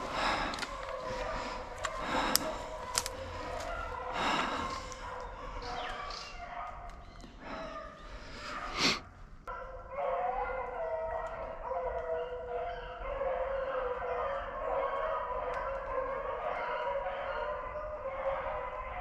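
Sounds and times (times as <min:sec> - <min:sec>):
dogs baying in chorus: 0:00.0 - 0:19.0.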